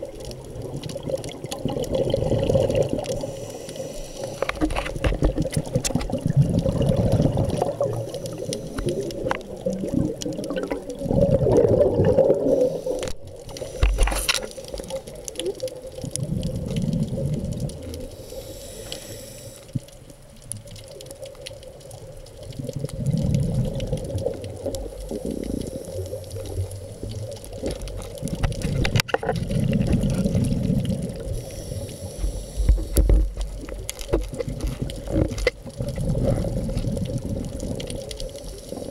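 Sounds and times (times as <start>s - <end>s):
scuba regulator bubbles underwater: 0.0s - 38.9s.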